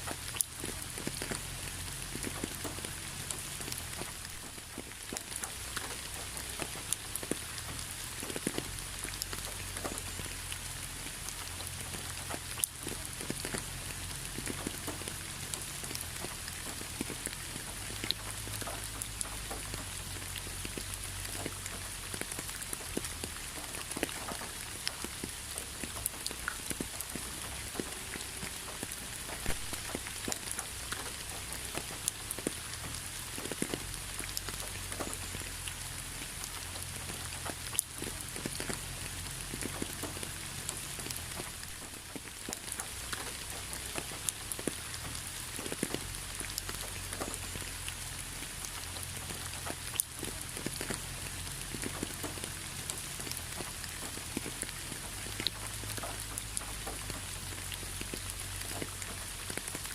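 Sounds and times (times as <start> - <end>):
rain hiss: 0.0 - 59.9
raindrops tapping on a surface: 0.0 - 59.9.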